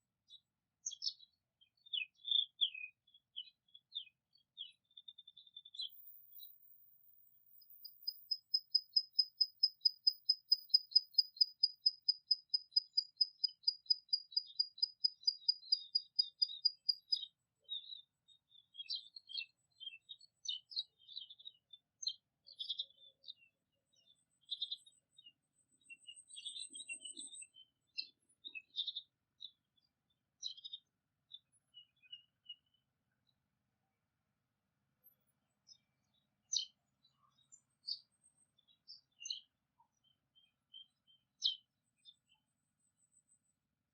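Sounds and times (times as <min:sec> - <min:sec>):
bird chirps and twitters: 0:00.3 - 0:06.9, 0:07.5 - 0:33.2, 0:35.0 - 0:43.3.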